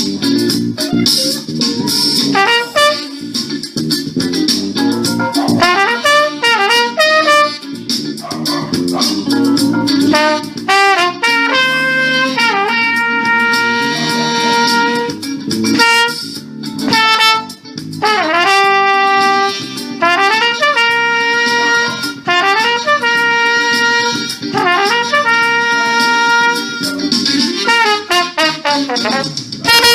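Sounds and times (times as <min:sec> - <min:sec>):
jazz band backing: 0:00.0 - 0:29.9
trumpet jazz solo: 0:02.0 - 0:03.4, 0:05.2 - 0:29.9.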